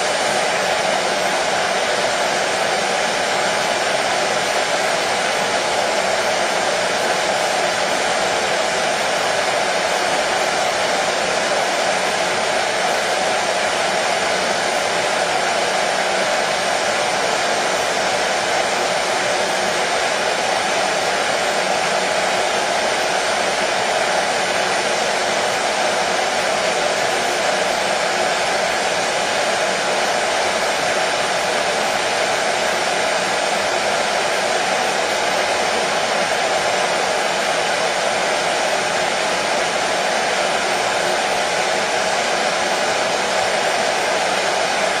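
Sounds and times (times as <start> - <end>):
hair dryer running: 0.0 - 45.0.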